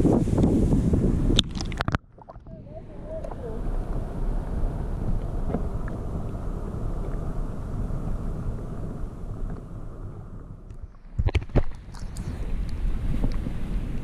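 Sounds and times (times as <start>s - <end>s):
underwater rumble and sloshing: 0.0s - 14.0s.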